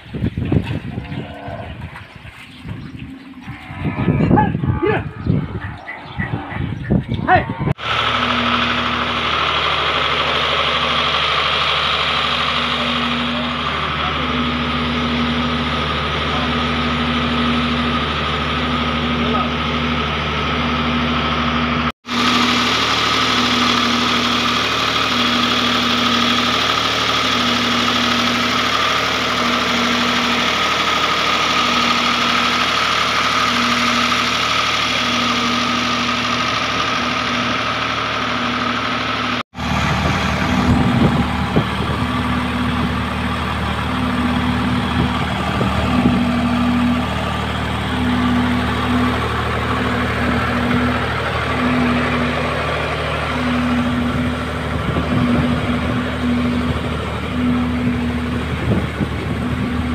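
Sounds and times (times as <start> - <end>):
pump engine running: 0.0 - 4.4, 7.7 - 59.9.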